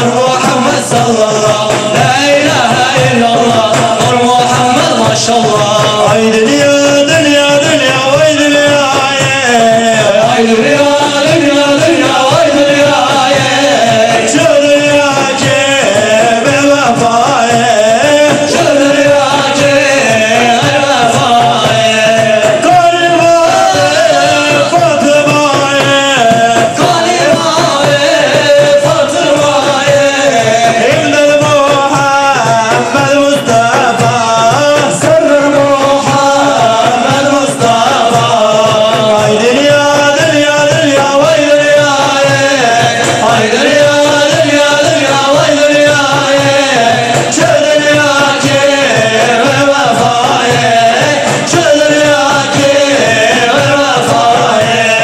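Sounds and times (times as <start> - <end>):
frame drums beating: 0.0 - 55.0.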